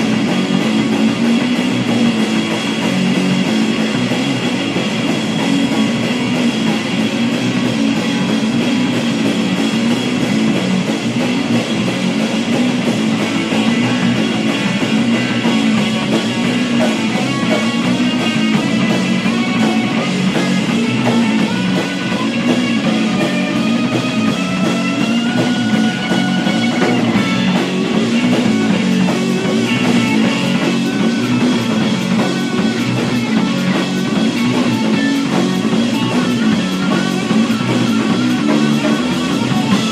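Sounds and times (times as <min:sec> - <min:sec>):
electric guitar: 0:00.0 - 0:39.9
rock band playing: 0:00.0 - 0:39.9.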